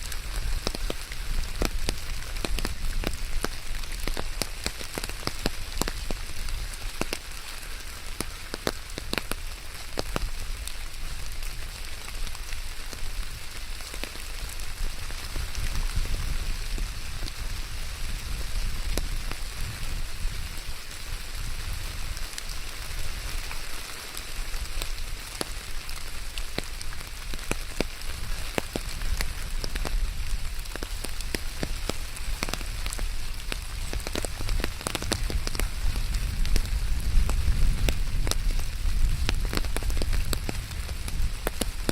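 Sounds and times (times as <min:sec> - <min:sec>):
raindrop ticks: 0:00.0 - 0:41.9
steady rain falling: 0:00.0 - 0:41.9.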